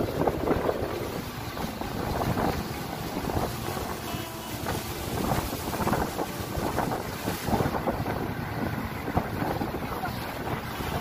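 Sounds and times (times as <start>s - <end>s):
outboard motors: 0.0s - 11.0s
rushing water: 0.0s - 11.0s
wind on microphone: 0.0s - 11.0s.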